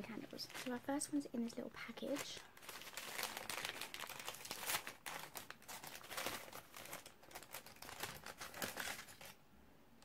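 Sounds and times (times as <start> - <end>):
crinkly package crackling: 0.0 - 9.4.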